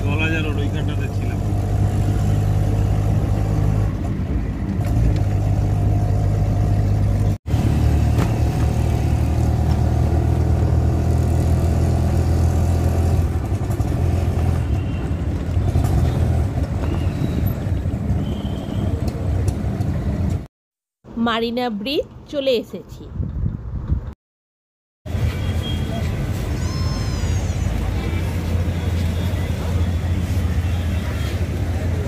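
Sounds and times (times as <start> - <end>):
auto-rickshaw engine running: 0.0 - 20.5, 25.1 - 32.0
road noise: 0.0 - 24.2, 25.0 - 32.0.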